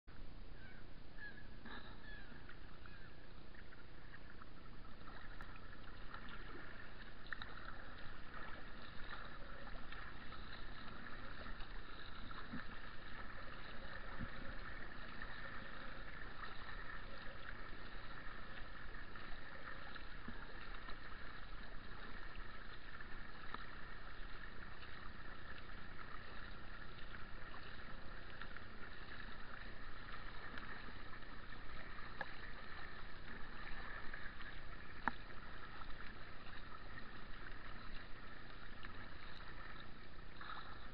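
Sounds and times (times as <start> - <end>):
paddle splashing in water: 1.6 - 40.9.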